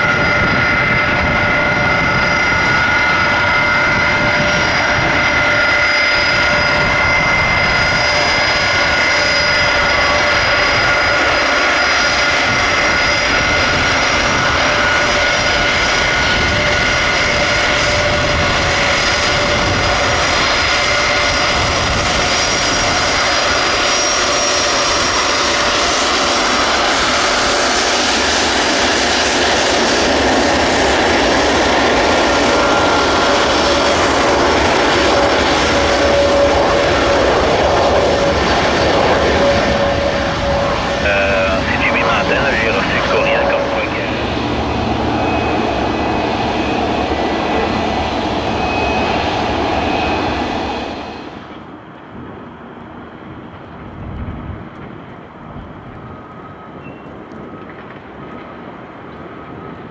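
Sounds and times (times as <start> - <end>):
high jet engine whine: 0.0 - 59.9
jet engine roar: 0.0 - 59.9
low jet engine whine: 0.0 - 59.9.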